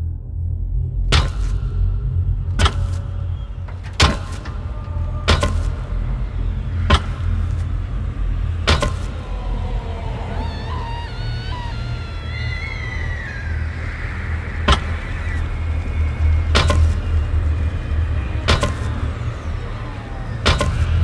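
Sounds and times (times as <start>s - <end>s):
low rumbling drone: 0.0s - 21.0s.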